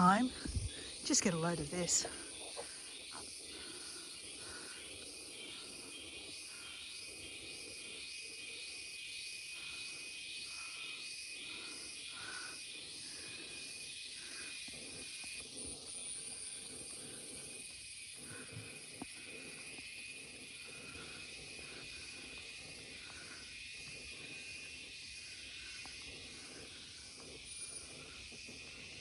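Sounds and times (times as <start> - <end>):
cicadas buzzing: 0.0 - 29.0
rhythmic pulsing insect call: 0.0 - 29.0.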